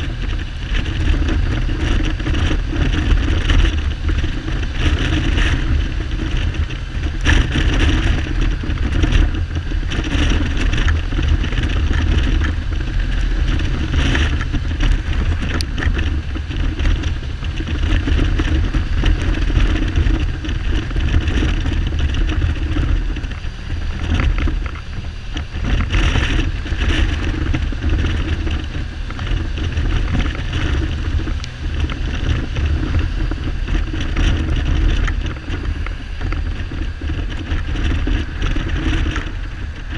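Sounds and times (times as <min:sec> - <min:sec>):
helmet rattling: 0:00.0 - 0:39.9
wind buffeting microphone: 0:00.0 - 0:39.9.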